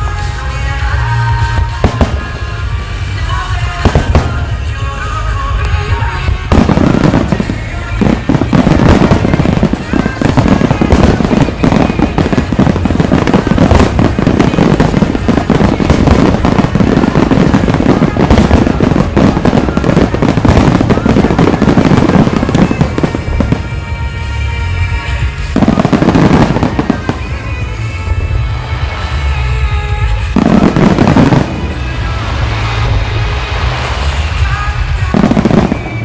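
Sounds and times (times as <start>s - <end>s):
fireworks bursting and crackling: 0.0s - 36.0s
music playing: 0.0s - 36.0s.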